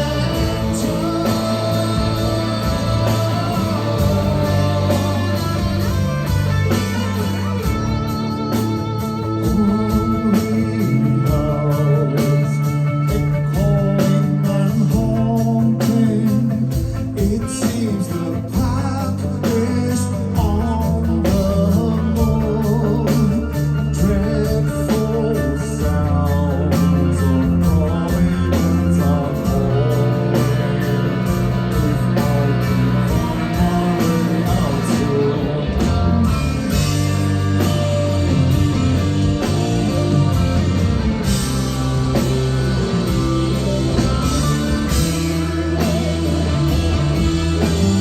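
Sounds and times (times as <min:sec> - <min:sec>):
rock band playing live: 0:00.0 - 0:48.0.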